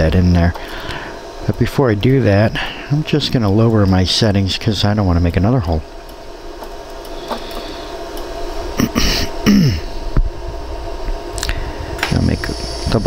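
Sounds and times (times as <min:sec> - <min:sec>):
laser welding machine hum: 0:00.0 - 0:13.0.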